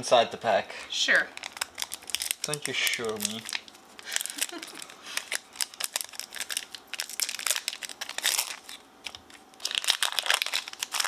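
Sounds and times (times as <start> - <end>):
foil wrapper crinkling and tearing: 1.4 - 11.0.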